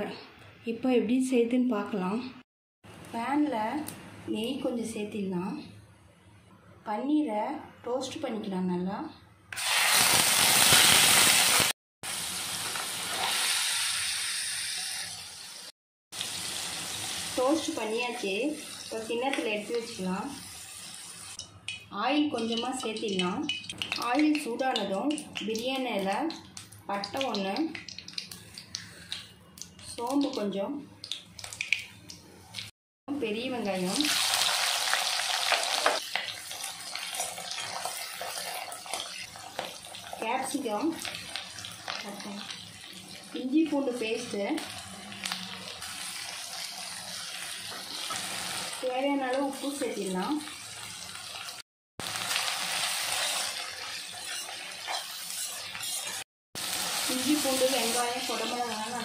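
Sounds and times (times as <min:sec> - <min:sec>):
food sizzling in hot fat: 0:09.6 - 0:32.0, 0:33.7 - 0:59.0.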